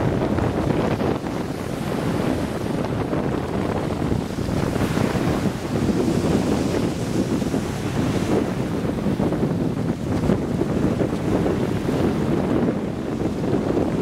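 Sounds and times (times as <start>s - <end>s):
sea waves: 0.0s - 14.0s
wind buffeting the microphone: 0.0s - 14.0s.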